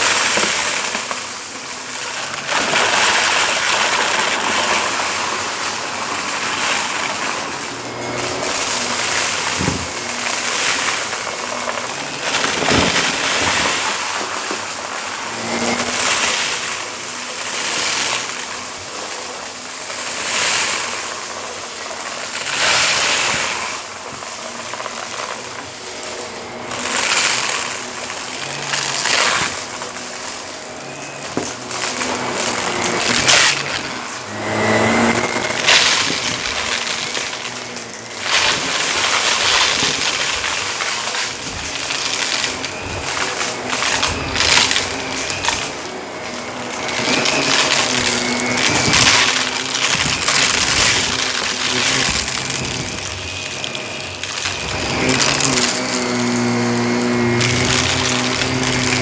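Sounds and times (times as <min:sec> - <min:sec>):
debris clicks: 0:00.0 - 0:59.0
vacuum cleaner on carpet: 0:00.0 - 0:59.0.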